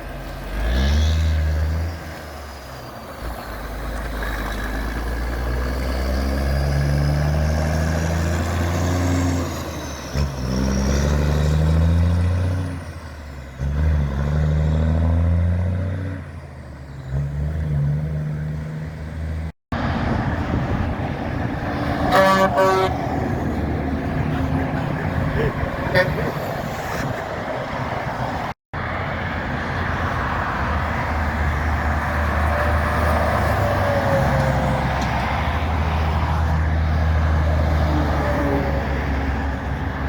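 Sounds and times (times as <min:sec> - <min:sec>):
diesel truck accelerating: 0:00.0 - 0:40.0.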